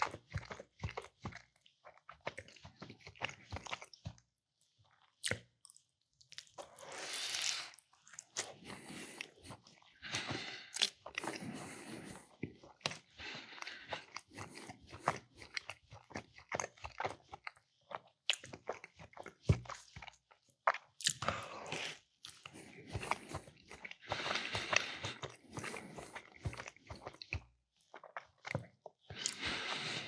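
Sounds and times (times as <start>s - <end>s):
mouth chewing and crunching food: 0.0s - 30.0s.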